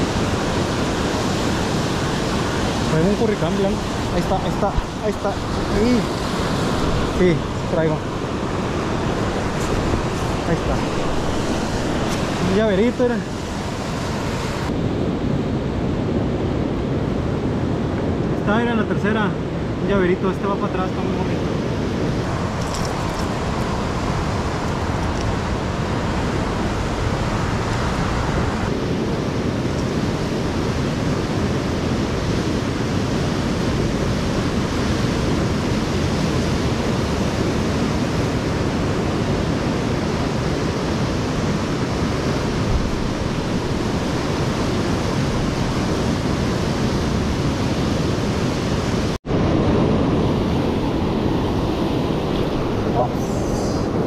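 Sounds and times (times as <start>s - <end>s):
ocean surf: 0.0s - 54.0s
wind: 0.0s - 54.0s.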